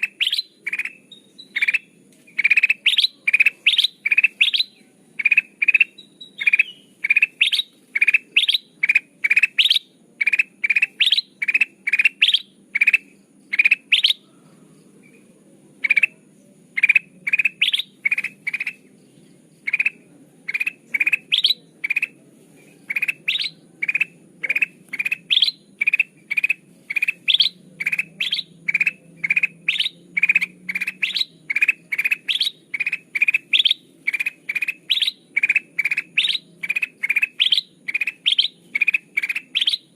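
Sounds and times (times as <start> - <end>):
bulbul rising chirps: 0.0 - 39.9.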